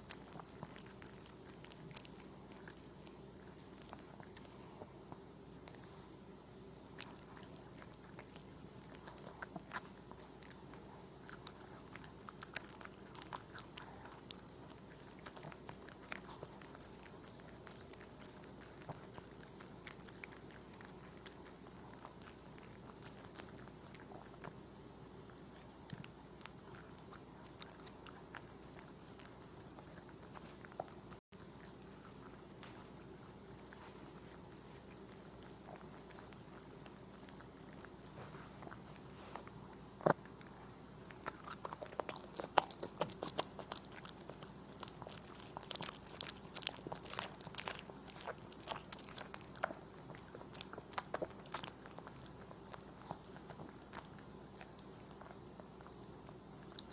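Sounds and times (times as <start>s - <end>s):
puppy chewing strawberries: 0.0s - 56.9s.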